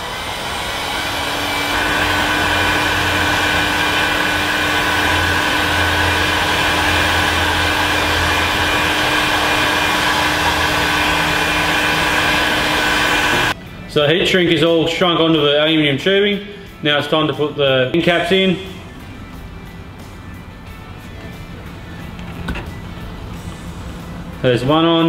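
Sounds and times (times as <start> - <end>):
heat gun fan blowing with whine: 0.0 - 25.0.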